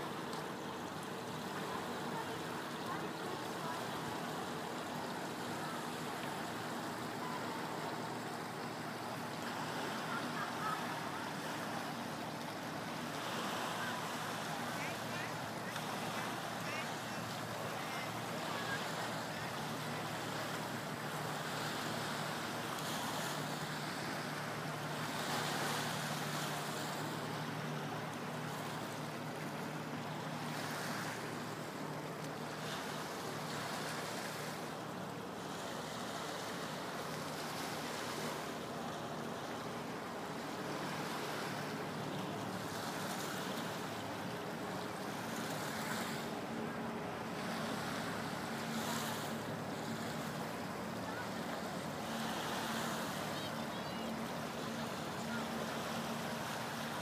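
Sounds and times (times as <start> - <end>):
water washing against shore: 0.0 - 57.0.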